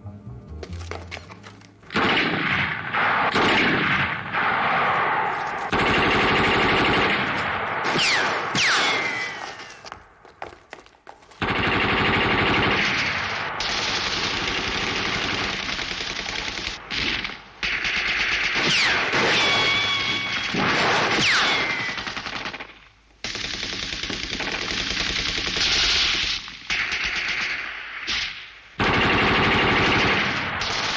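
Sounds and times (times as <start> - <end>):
rapid automatic gunfire: 2.0 - 4.6, 5.7 - 9.4, 11.4 - 27.8, 28.8 - 30.9.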